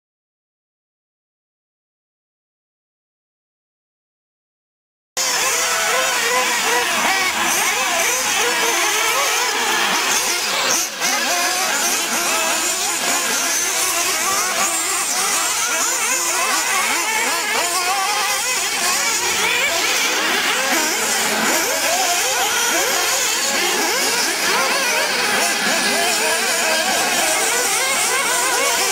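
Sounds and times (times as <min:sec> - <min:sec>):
rc car engines whining: 0:05.2 - 0:28.9.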